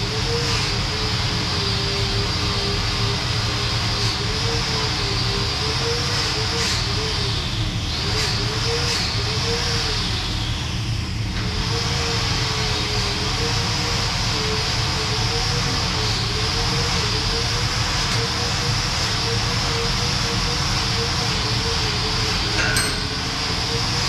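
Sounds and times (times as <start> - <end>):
droning machine hum: 0.0 - 24.0.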